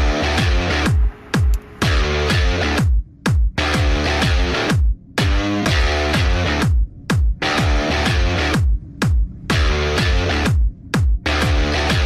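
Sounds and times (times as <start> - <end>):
heavy kick drum: 0.0 - 12.0
sustained synth chords: 0.0 - 12.0.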